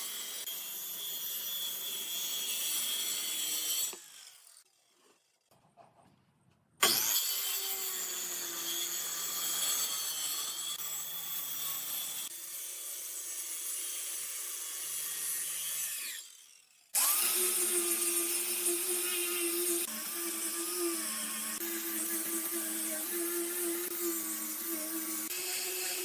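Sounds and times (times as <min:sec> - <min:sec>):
electric power tool cutting wood: 0:00.0 - 0:04.7, 0:06.8 - 0:26.0.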